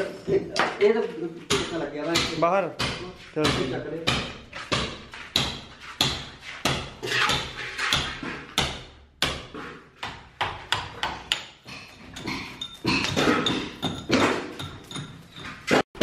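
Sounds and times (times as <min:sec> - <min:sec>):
hammer striking steel chisel: 0:01.5 - 0:16.0.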